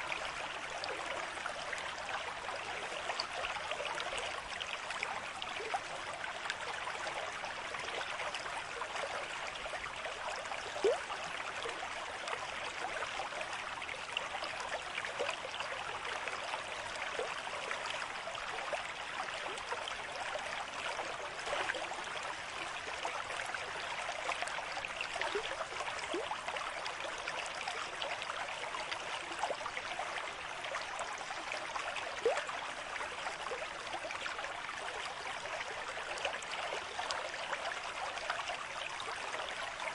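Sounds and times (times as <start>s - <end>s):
stream babbling: 0.0s - 39.9s
water gurgles: 0.0s - 39.9s.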